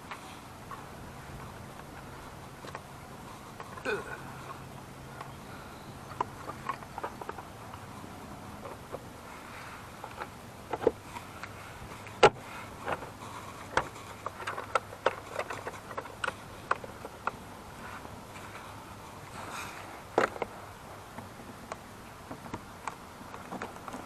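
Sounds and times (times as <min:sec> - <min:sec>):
knocks and clicks of gear: 0:00.0 - 0:24.0.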